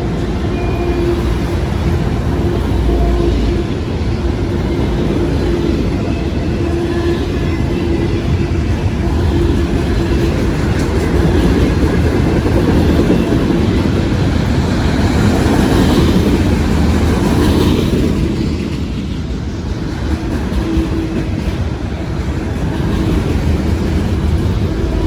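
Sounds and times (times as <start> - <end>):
freight train wheels rumbling on rail: 0.0 - 25.0.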